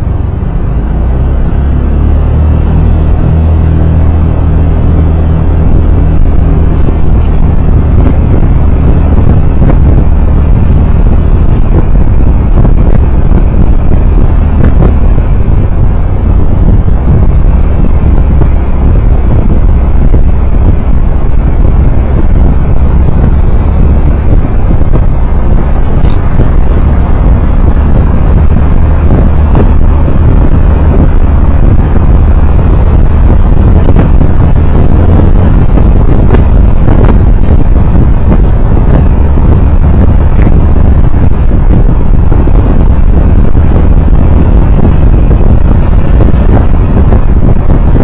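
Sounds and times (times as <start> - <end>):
vehicle rumble on road: 0.0 - 48.0
wind buffeting microphone: 0.0 - 48.0.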